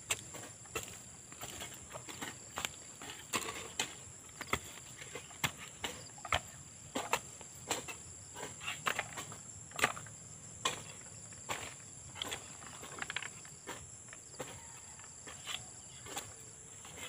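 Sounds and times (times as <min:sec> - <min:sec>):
hand hoe chopping into soil: 0:00.0 - 0:17.0.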